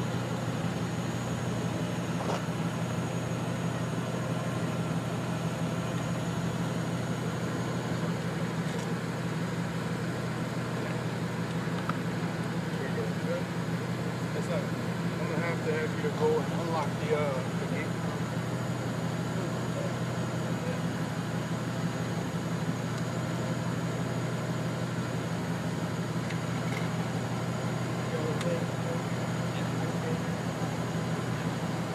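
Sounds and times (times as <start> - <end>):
vehicle engines idling: 0.0 - 31.9.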